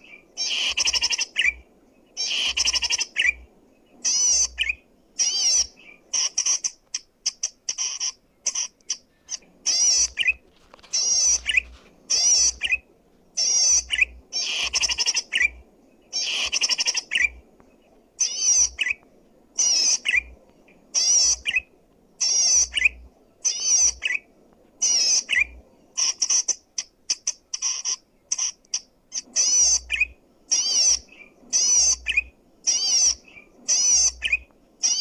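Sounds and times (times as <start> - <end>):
bird singing warbling trills: 0.0 - 35.0.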